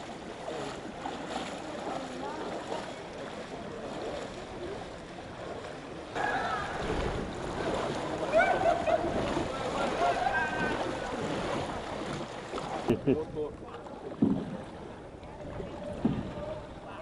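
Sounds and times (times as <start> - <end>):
faint voices: 0.0 - 17.0
water sloshing and splashing: 0.0 - 17.0.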